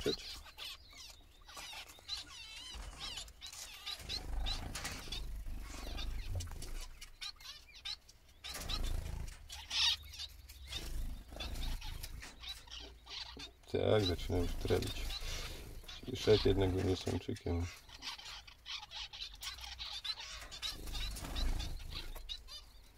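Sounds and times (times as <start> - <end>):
finch singing: 0.0 - 22.9
small birds chirping: 0.0 - 22.9.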